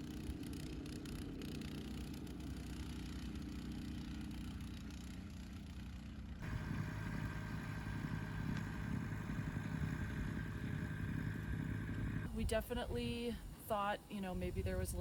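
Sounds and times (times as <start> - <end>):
rough-running machine: 0.0 - 12.3
snow blower engines running: 0.0 - 15.0.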